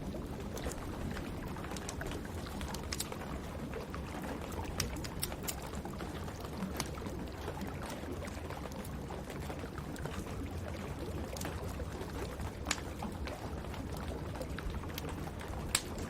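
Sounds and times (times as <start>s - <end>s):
wood fire crackling: 0.0s - 8.4s, 11.0s - 16.0s.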